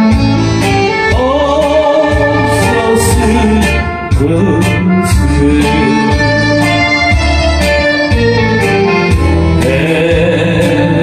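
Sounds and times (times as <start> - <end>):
drum beat with bass and guitar: 0.0 - 11.0.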